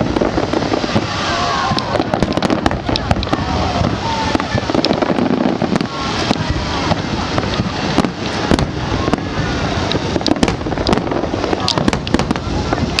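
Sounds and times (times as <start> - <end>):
firework shells bursting: 0.0 - 13.0
fireworks crackling: 0.0 - 13.0.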